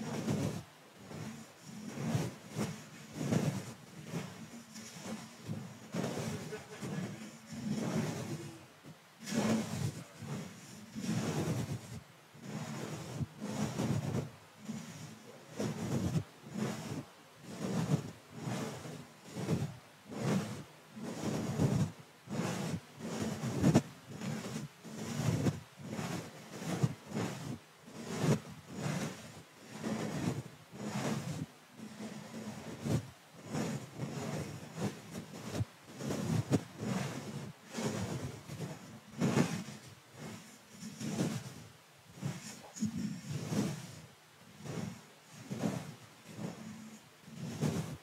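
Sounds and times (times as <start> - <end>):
brush swishing over microphone: 0.0 - 48.0.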